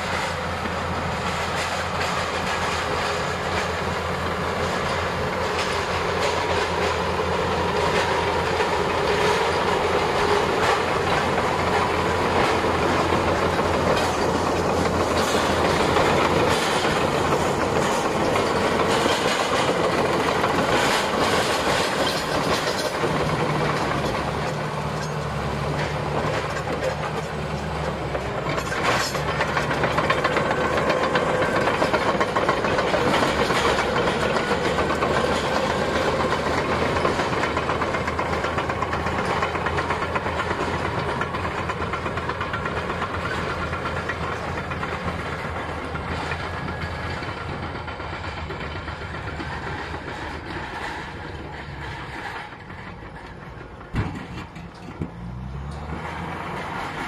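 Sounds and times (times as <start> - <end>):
bulldozer diesel engine: 0.0 - 57.0
steel tracks clattering: 0.0 - 57.0.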